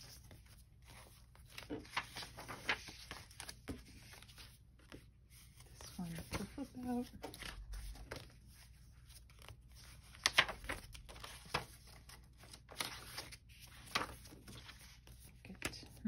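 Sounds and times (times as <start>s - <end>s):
paper pages rustling and flapping: 0.0s - 16.0s.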